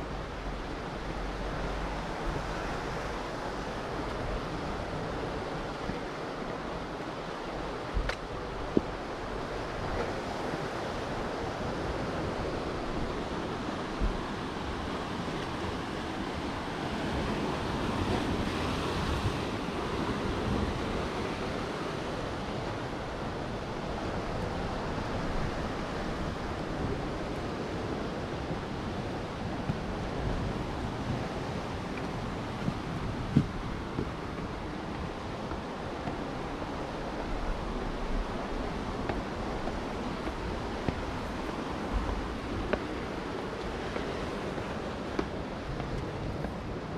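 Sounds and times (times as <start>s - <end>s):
sea waves washing on shore: 0.0s - 46.9s
wind on microphone: 0.0s - 46.9s.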